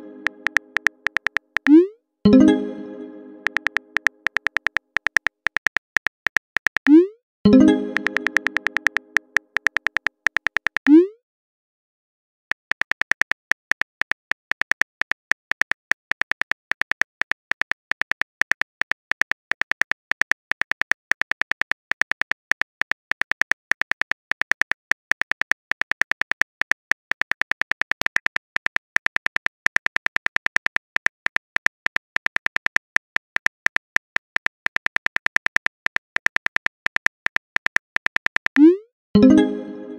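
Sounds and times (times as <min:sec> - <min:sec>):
phone keyboard clicks: 0:00.2 - 0:01.8, 0:03.4 - 0:07.0, 0:07.9 - 0:11.0, 0:12.5 - 0:38.7.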